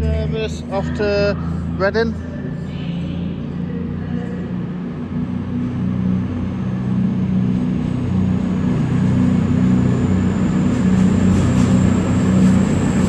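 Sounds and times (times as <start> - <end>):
diesel train engines running: 0.0 - 13.0.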